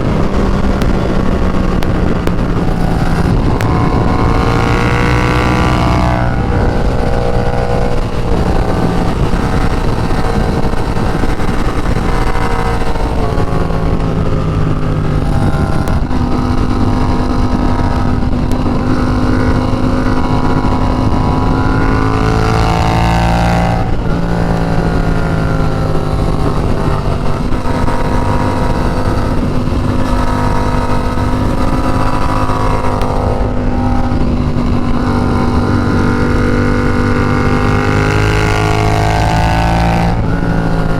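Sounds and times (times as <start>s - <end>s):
motorcycle engine running at speed: 0.0s - 40.9s
wind rushing: 0.0s - 40.9s.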